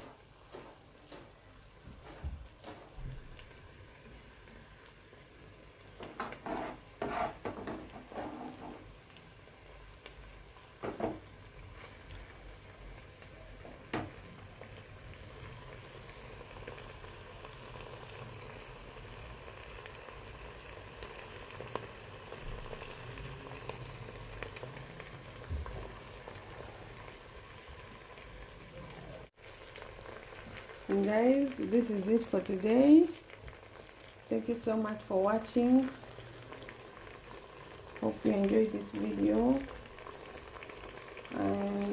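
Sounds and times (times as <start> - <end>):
sauce bubbling and sizzling in pot: 0.0 - 41.9.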